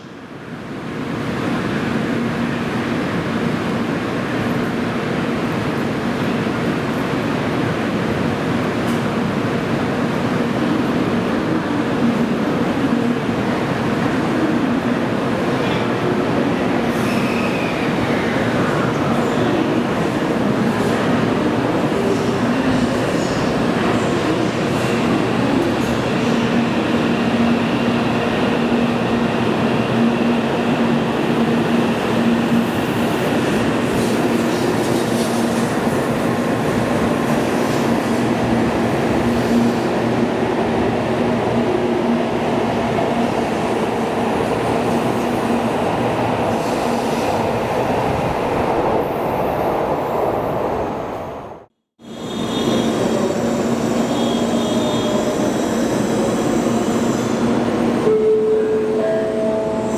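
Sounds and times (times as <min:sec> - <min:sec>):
train rail noise: 0:00.0 - 0:59.9.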